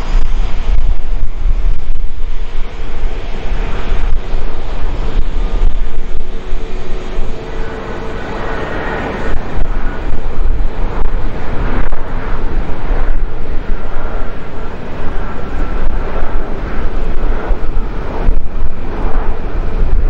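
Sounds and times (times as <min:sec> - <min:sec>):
jet engines rumbling: 0:00.0 - 0:20.0
wind buffeting microphone: 0:00.0 - 0:20.0.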